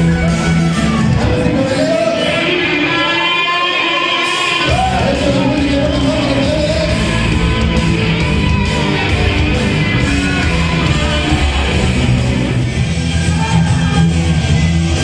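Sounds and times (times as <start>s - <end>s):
cumbia music with heavy bass: 0.0s - 15.0s.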